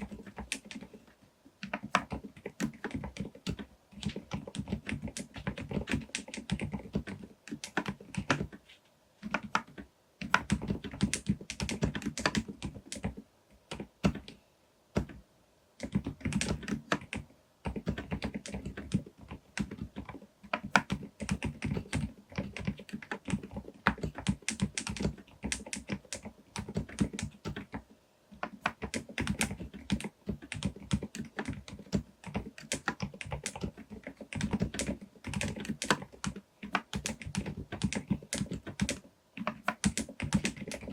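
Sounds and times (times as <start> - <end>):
fast typing on mechanical keyboard: 0.0 - 1.0, 1.6 - 8.6, 9.2 - 14.4, 15.0 - 15.2, 15.8 - 40.9.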